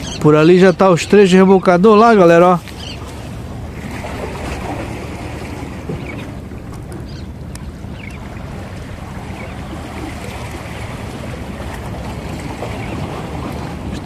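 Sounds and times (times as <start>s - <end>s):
wind on microphone: 2.6s - 14.0s.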